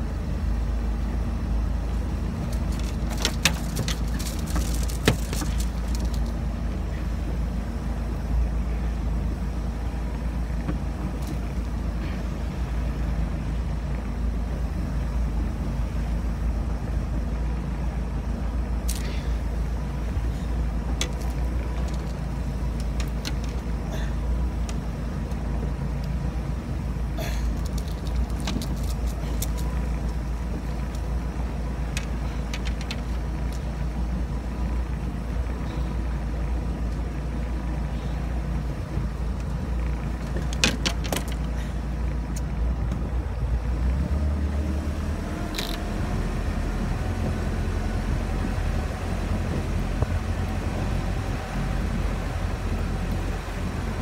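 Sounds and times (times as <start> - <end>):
boat engine running: 0.0 - 54.0
wind: 0.0 - 54.0.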